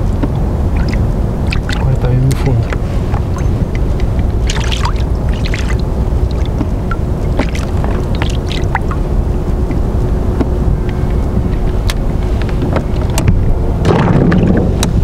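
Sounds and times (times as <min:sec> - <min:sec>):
water rushing: 0:00.0 - 0:15.0
water slapping kayak hull: 0:00.0 - 0:15.0
wind rumbling on microphone: 0:00.0 - 0:15.0.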